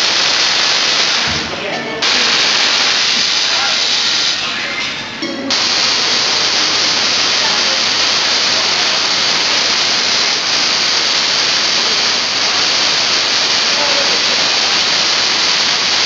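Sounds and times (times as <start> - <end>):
tesla coil sparks hissing: 0.0 - 16.0.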